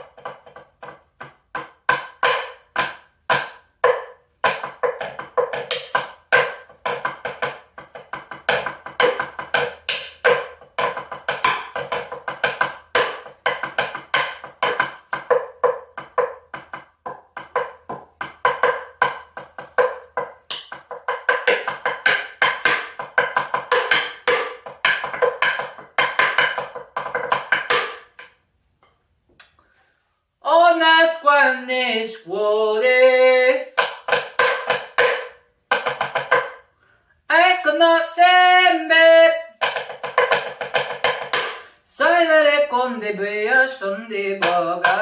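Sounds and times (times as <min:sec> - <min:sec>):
fast hand percussion: 0:00.0 - 0:28.4, 0:33.6 - 0:36.7, 0:37.4 - 0:45.0.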